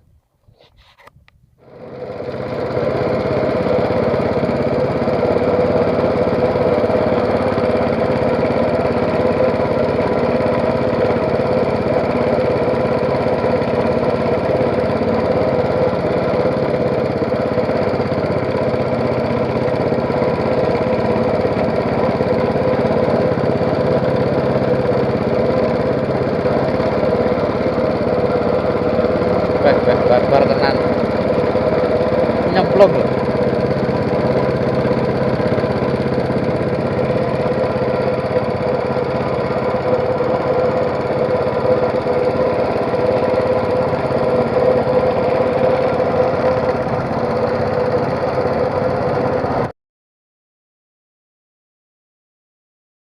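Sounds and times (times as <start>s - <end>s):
small engine running: 0.4s - 49.7s.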